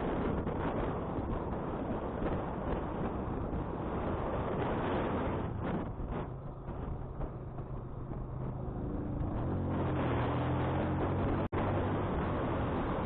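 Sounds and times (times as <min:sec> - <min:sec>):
wind rushing over microphone: 0:00.0 - 0:13.0
motorcycle engine running: 0:01.6 - 0:13.0.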